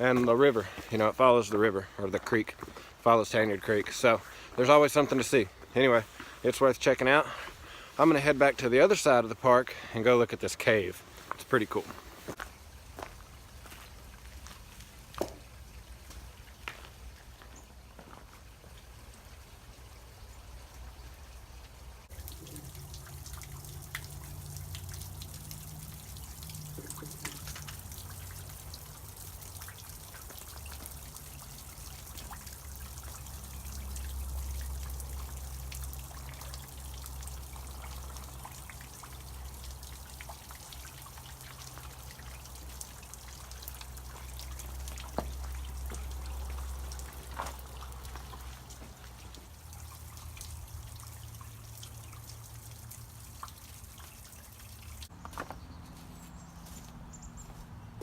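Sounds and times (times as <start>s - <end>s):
water trickling and dripping: 0.0s - 55.2s.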